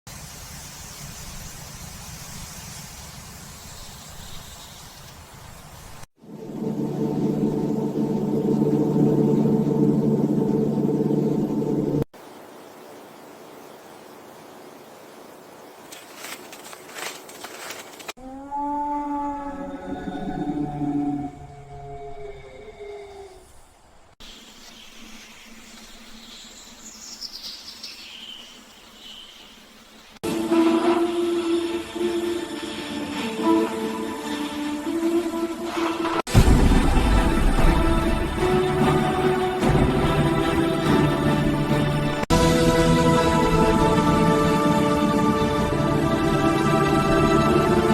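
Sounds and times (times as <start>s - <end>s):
steady outdoor hiss: 0.1s - 18.2s, 19.3s - 47.9s.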